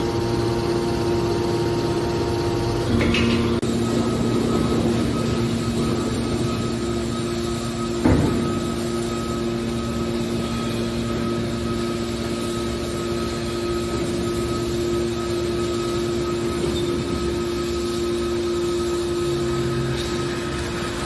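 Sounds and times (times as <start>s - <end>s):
hydraulic baler humming: 0.0s - 21.0s.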